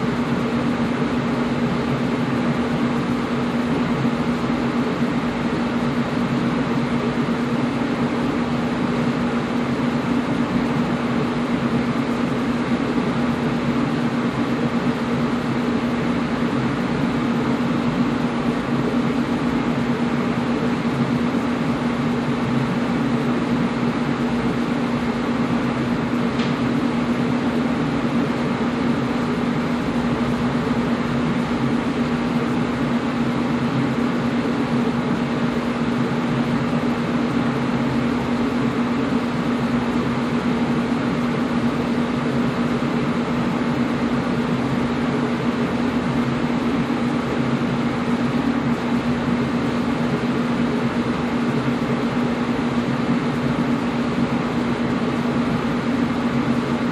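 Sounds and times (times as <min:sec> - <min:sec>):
air conditioner hum: 0:00.0 - 0:56.9.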